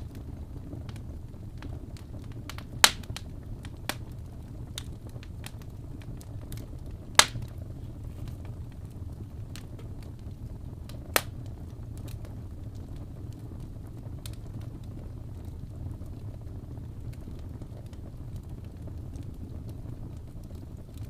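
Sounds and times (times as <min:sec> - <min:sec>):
sharp pops from fire: 0:00.0 - 0:21.0
wood fire crackling: 0:00.0 - 0:21.0.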